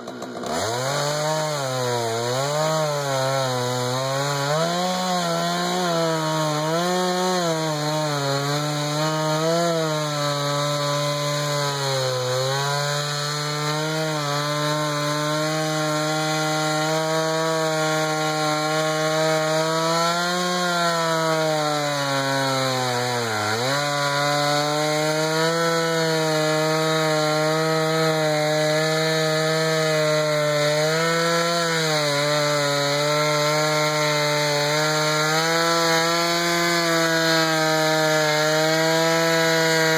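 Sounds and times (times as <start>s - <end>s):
chainsaw cutting wood at full throttle: 0.0s - 39.9s.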